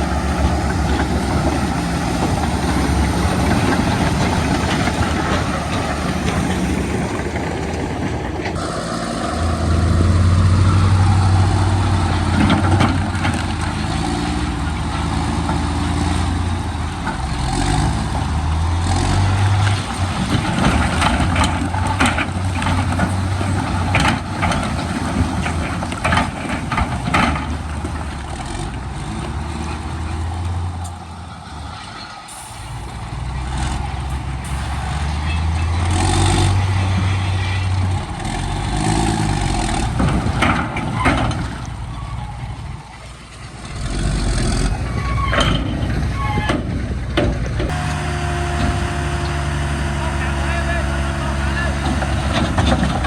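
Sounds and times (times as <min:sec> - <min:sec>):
heavy diesel engines droning: 0:00.0 - 0:53.0.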